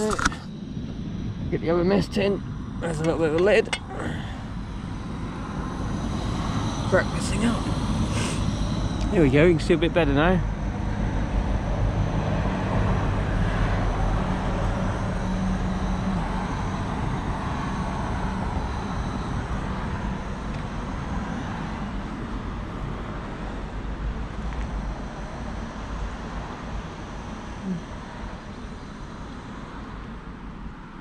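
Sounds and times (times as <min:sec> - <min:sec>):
car engine idling: 0:00.0 - 0:30.6.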